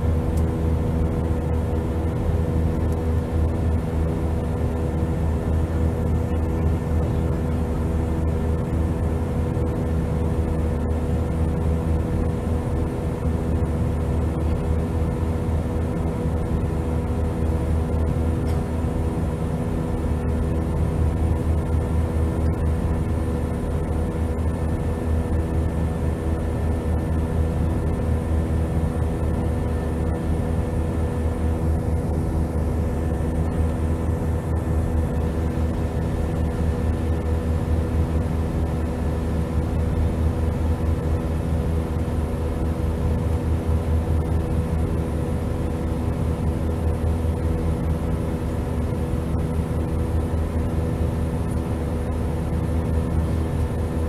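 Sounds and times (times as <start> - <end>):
jet cabin drone: 0.0 - 54.0.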